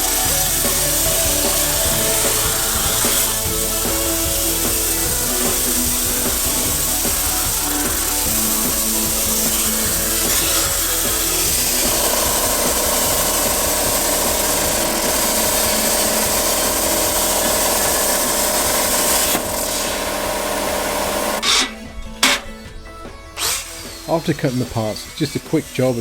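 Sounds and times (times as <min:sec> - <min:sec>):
plasma cutter hissing: 0:00.0 - 0:22.6
background music: 0:00.0 - 0:26.0.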